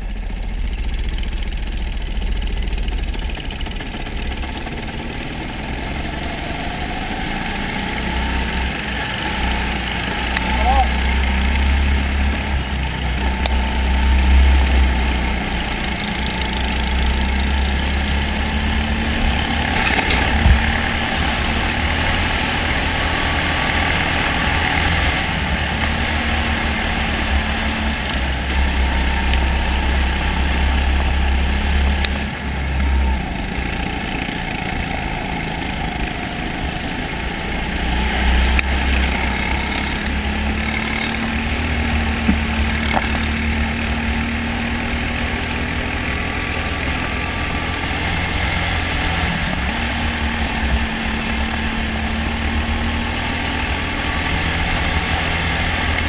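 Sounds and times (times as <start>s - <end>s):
go-kart engines racing: 0.0s - 56.0s.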